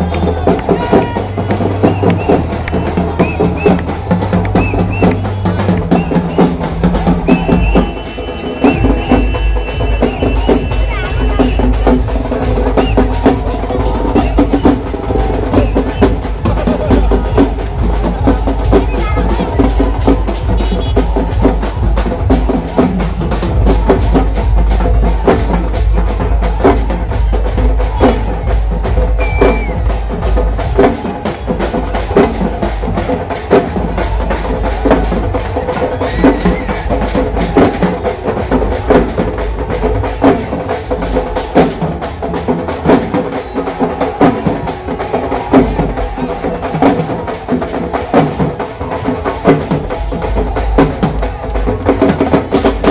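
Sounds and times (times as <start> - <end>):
music with fast drumming: 0.0 - 52.9.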